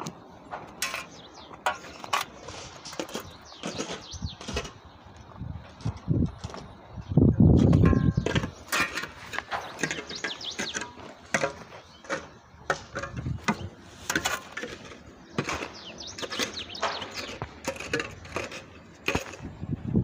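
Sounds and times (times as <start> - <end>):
metal shovel scraping stony soil: 0.6 - 5.0, 7.6 - 19.7.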